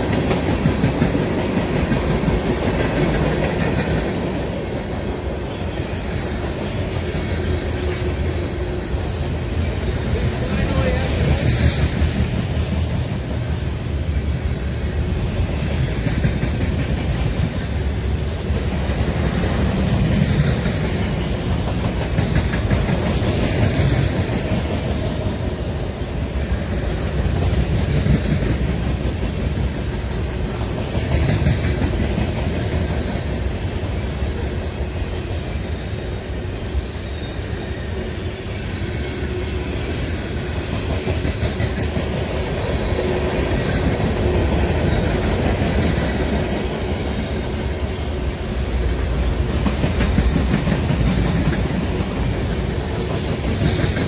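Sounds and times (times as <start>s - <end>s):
freight train rolling past: 0.0s - 54.0s
steel wheels clattering on rails: 0.0s - 54.0s.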